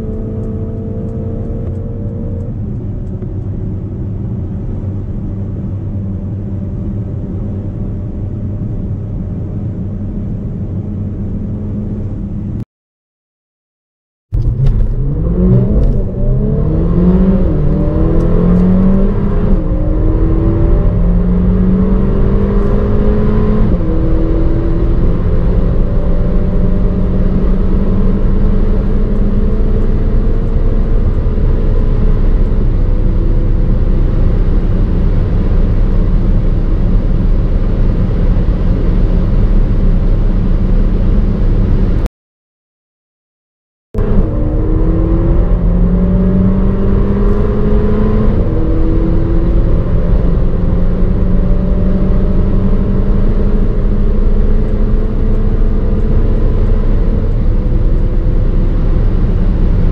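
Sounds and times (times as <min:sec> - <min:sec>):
car engine accelerating: 0:00.0 - 0:12.6, 0:14.4 - 0:42.1, 0:44.0 - 0:59.9
road and wind noise: 0:00.0 - 0:12.6, 0:14.4 - 0:42.1, 0:44.0 - 0:59.9.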